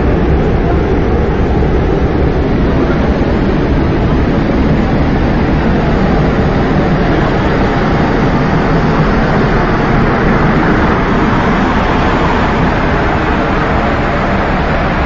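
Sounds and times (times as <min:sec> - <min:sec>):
loud steady rumbling: 0:00.0 - 0:15.0.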